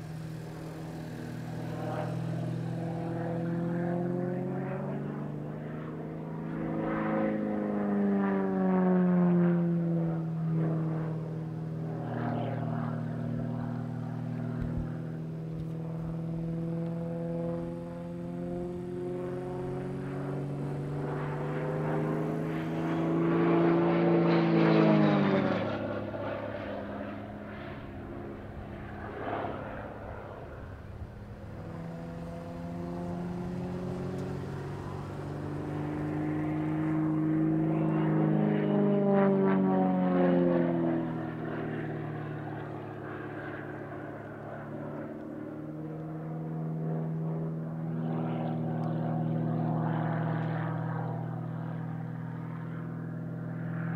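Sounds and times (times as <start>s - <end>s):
propeller plane engine droning: 0.0s - 53.9s.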